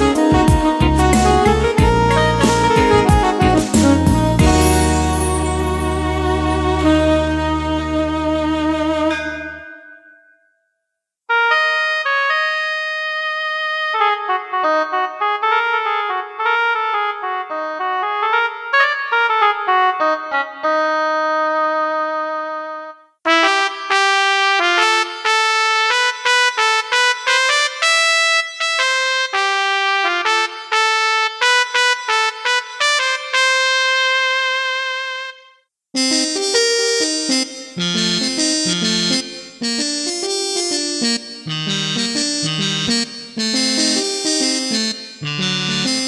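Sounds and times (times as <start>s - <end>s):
electronic keyboard melodies: 0.0s - 10.3s, 11.3s - 46.0s.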